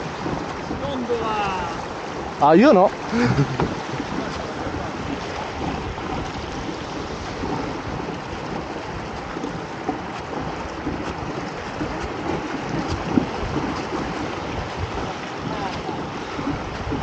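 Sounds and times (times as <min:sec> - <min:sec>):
water rushing along hull: 0:00.0 - 0:17.0
wind on microphone: 0:00.0 - 0:17.0.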